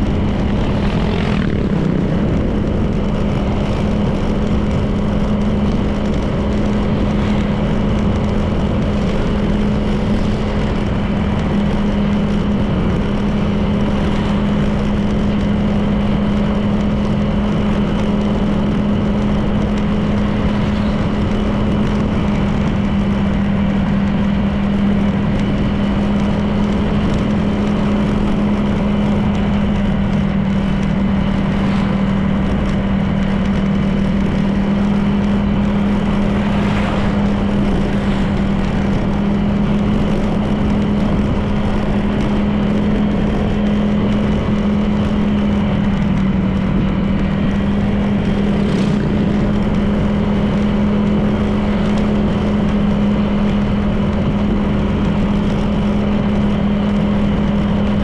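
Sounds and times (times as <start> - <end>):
road and wind noise: 0.0 - 58.0
scooter engine cruising: 0.0 - 58.0.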